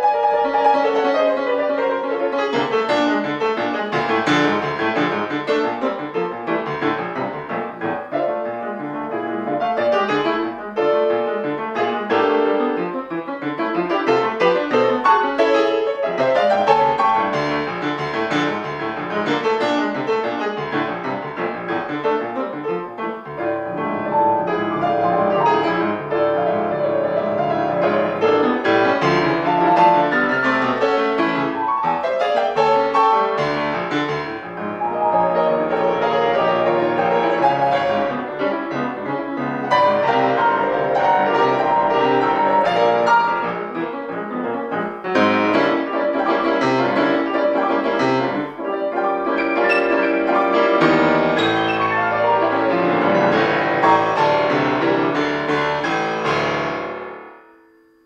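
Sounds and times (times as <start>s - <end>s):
classical piano playing: 0.0s - 58.0s.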